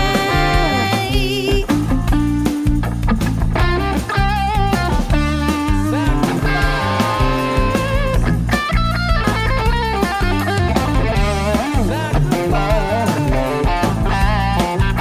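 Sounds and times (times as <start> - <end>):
bass and drums: 0.0 - 15.0
electric lead guitar melody: 0.0 - 15.0.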